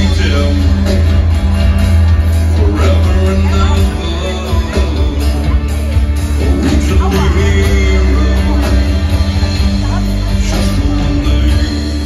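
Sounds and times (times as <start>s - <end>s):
heavy bass line: 0.0s - 12.0s
live band amplified music: 0.0s - 12.0s
person singing: 0.0s - 12.0s.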